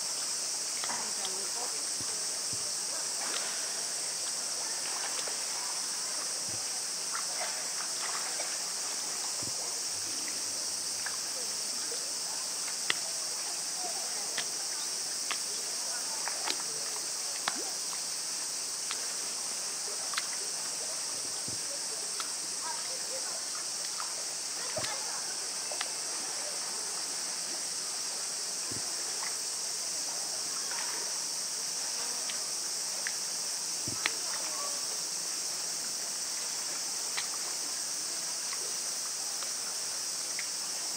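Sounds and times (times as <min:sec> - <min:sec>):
cicada chorus drone: 0:00.0 - 0:40.9
running water: 0:00.0 - 0:40.9.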